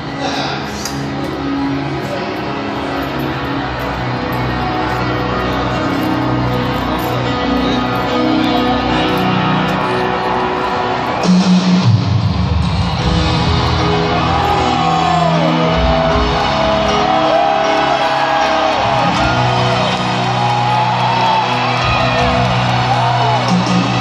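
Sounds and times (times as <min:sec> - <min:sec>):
live rock band in arena: 0:00.0 - 0:24.0.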